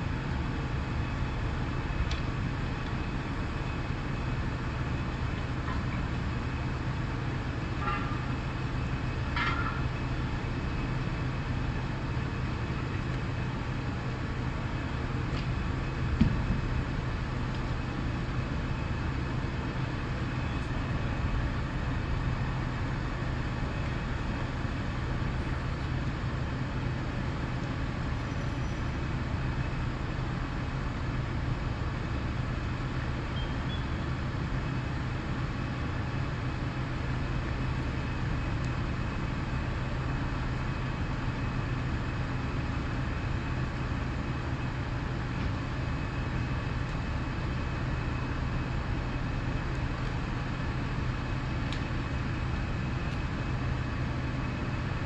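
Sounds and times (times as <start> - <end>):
vehicle engines rumbling: 0.0 - 55.0.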